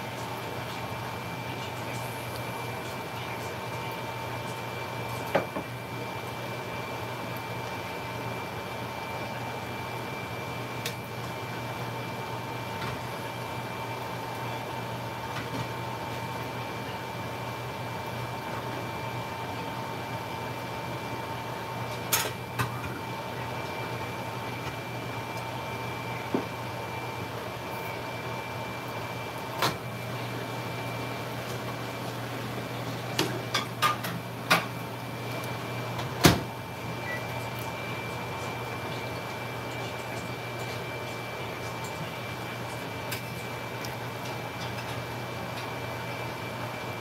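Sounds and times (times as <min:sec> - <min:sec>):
appliance hum with tones: 0:00.0 - 0:47.0.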